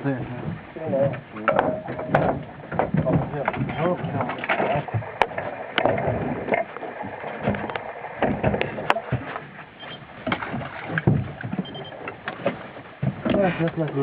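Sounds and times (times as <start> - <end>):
water washing: 0.0 - 14.0
knocks on small boat: 0.1 - 9.6, 10.2 - 14.0.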